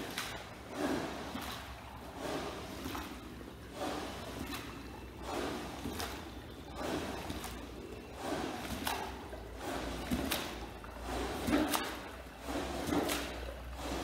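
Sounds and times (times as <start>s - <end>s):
paddle swishing over wet rug: 0.0s - 14.0s.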